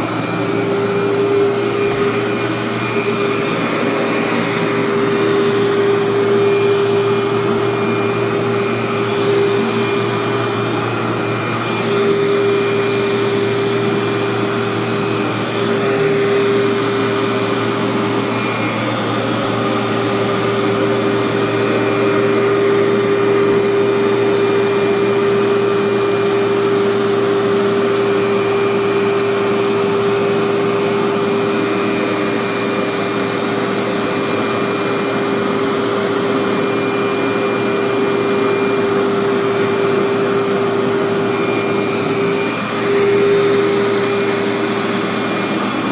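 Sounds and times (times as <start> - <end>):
vacuum cleaner on carpet: 0.0 - 45.9.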